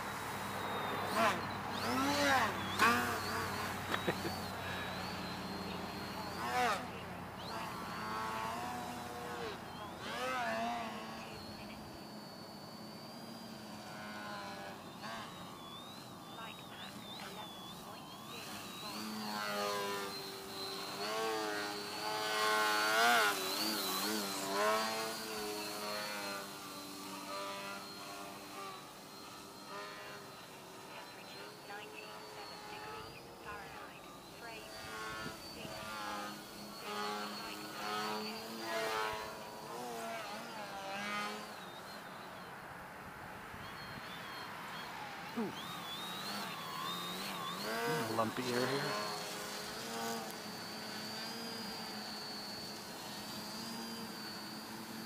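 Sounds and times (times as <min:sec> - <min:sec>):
model plane motor and propeller: 0:00.0 - 0:55.0.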